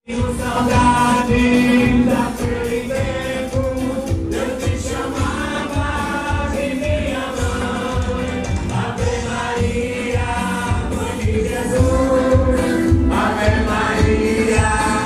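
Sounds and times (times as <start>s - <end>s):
many voices singing a hymn: 0.1s - 15.0s.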